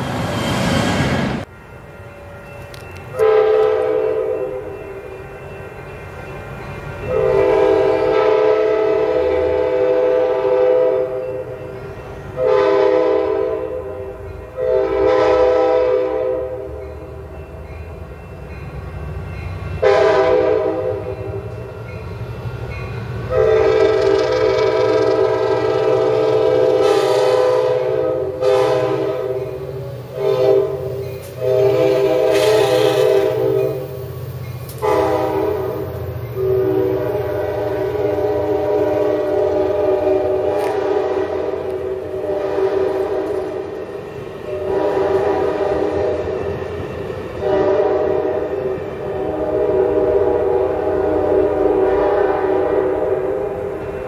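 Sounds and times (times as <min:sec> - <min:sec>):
train rumble: 0:00.0 - 0:54.0
train horn blasts: 0:02.4 - 0:04.8, 0:07.0 - 0:16.9, 0:19.8 - 0:21.6, 0:23.2 - 0:34.0, 0:34.7 - 0:46.7, 0:47.3 - 0:54.0.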